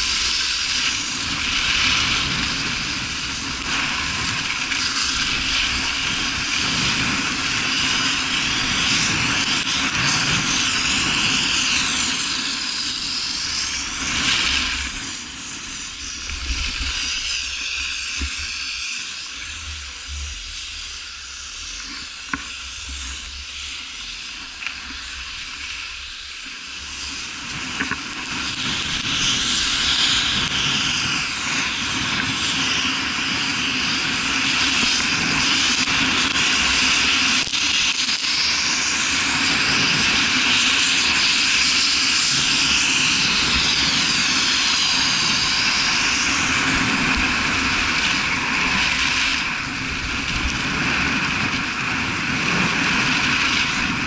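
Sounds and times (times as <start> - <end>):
skis carving on snow: 0.0 - 54.0
wind on microphone: 0.0 - 54.0.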